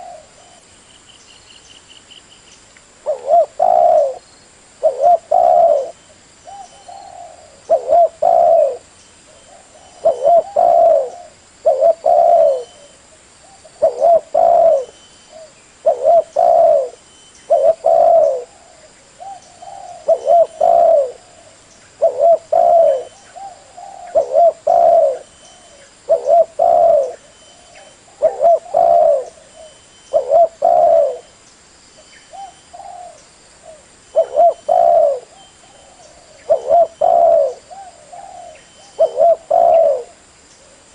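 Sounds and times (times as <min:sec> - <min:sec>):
dove cooing: 0:00.0 - 0:00.7, 0:03.0 - 0:04.2, 0:04.8 - 0:31.3, 0:32.3 - 0:40.9.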